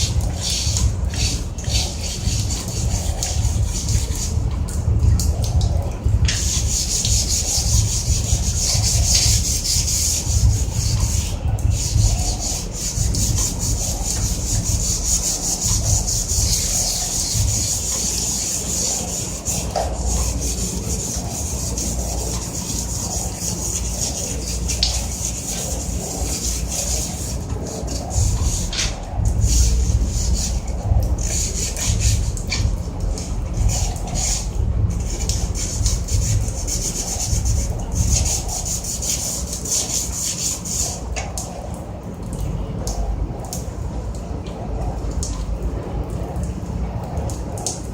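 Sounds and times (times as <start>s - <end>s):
sanding metal: 0.0s - 4.8s, 6.0s - 41.0s.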